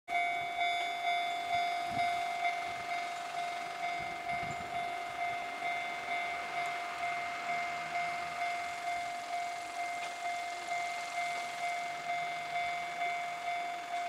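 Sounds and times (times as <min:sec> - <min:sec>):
level crossing warning bell ringing: 0:00.1 - 0:14.0.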